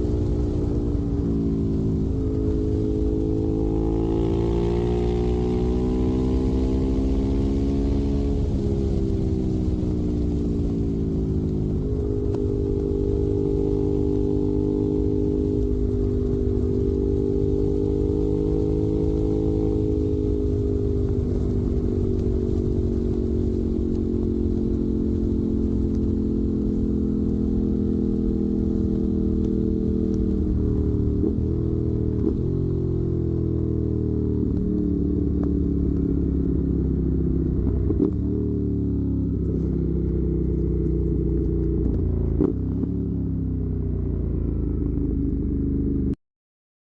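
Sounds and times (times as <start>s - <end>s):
motorcycle engine running: 0.0s - 46.2s.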